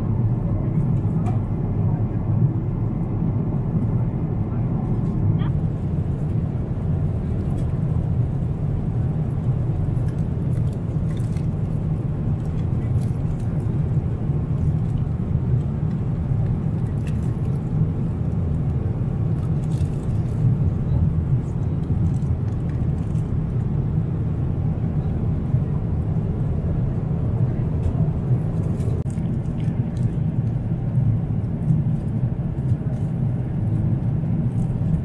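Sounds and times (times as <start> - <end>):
airplane cabin drone: 0.0 - 35.0.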